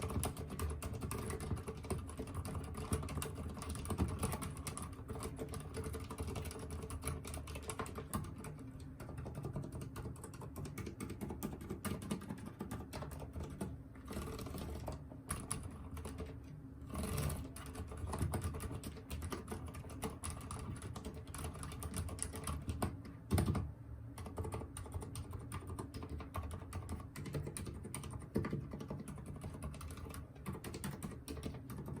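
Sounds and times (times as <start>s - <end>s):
soft mechanical keyboard typing: 0.0s - 32.0s.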